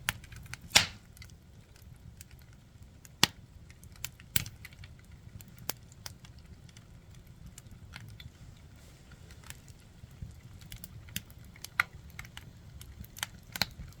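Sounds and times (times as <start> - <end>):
firewood crackling and popping: 0.0 - 14.0
low steady rumble: 0.0 - 14.0.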